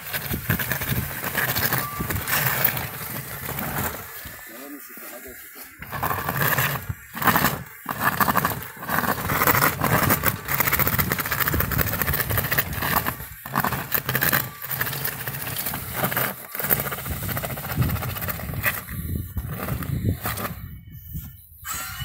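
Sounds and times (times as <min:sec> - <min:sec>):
blade scraping and grinding snow: 0:00.0 - 0:22.0
robot drive buzzing: 0:00.1 - 0:20.9.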